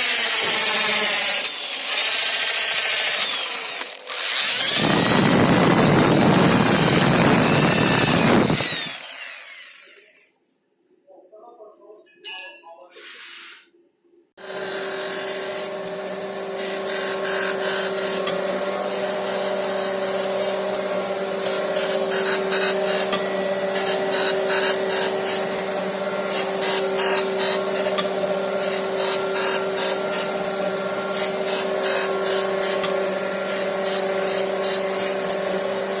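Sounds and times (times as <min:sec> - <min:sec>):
small power tool whining: 0:00.0 - 0:10.3, 0:14.4 - 0:36.0.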